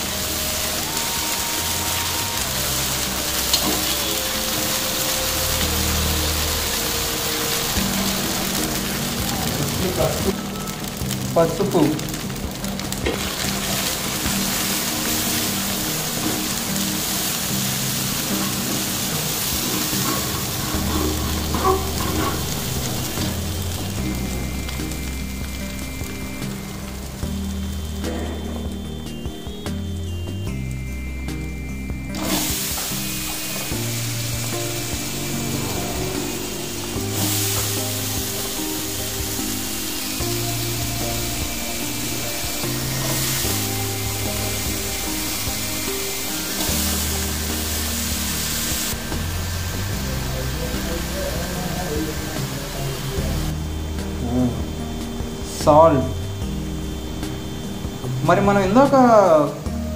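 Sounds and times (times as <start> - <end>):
background music: 0.0 - 59.9
vegetables sizzling in oil: 0.0 - 59.9.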